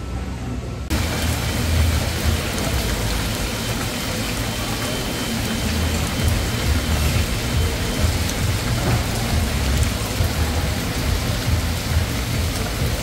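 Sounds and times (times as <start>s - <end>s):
heavy rain pouring: 0.9s - 13.0s.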